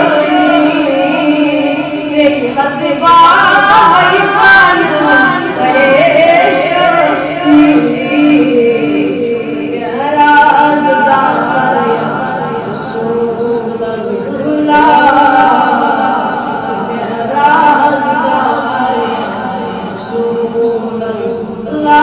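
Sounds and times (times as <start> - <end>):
boy singing into a microphone: 0.0 - 22.0.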